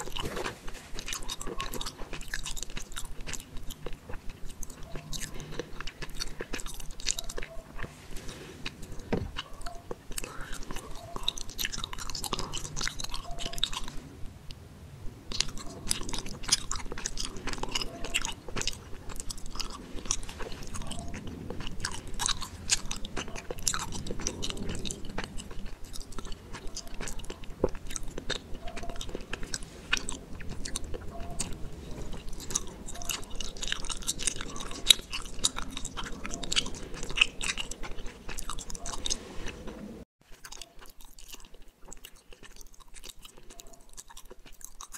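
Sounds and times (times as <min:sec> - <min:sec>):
chewing gummy candy: 0:00.0 - 0:14.6, 0:15.3 - 0:44.9.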